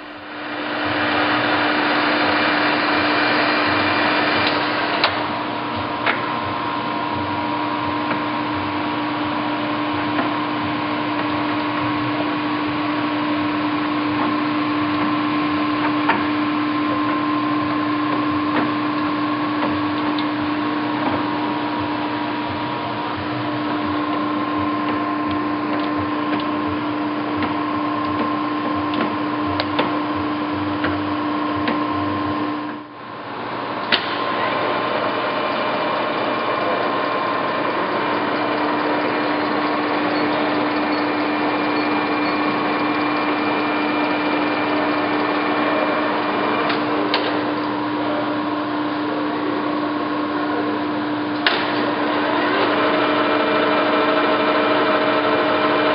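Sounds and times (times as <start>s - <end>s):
lathe running with gear whine: 0.0s - 55.9s.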